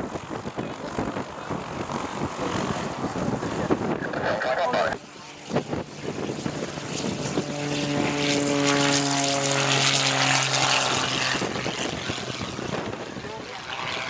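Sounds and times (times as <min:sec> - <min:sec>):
propeller plane passing overhead: 0:00.0 - 0:14.0.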